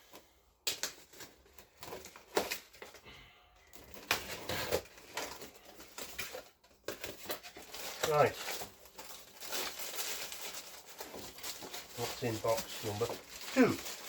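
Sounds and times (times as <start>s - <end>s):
rustling of packaging: 0.0s - 14.0s.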